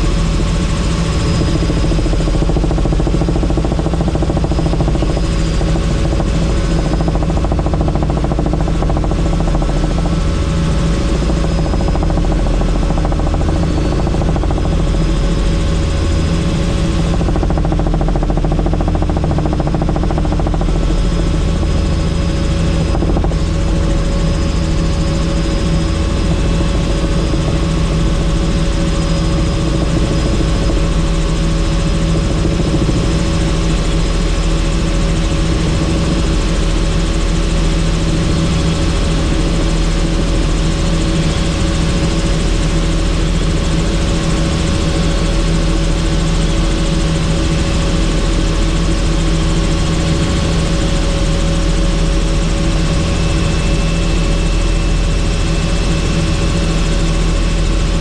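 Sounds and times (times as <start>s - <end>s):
helicopter rotor and engine drone: 0.0s - 58.0s.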